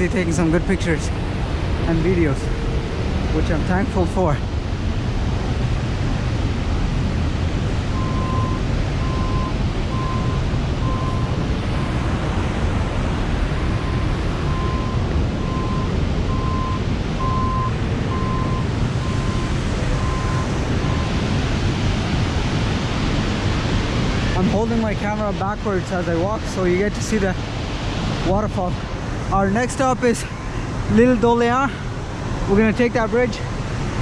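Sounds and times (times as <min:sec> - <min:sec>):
waterfall roaring: 0:00.0 - 0:34.0
wind buffeting microphone: 0:00.0 - 0:34.0.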